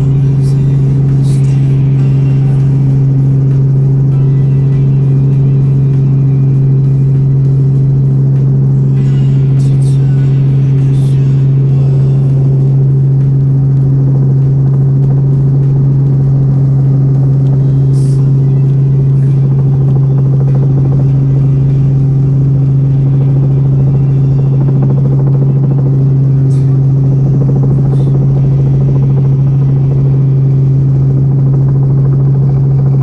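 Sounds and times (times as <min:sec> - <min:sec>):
helicopter droning in flight: 0:00.0 - 0:33.0.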